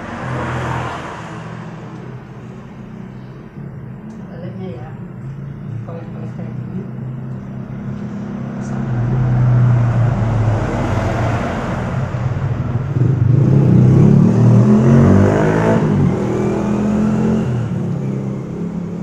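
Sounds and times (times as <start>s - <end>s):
vehicle engine running: 1.6s - 19.0s.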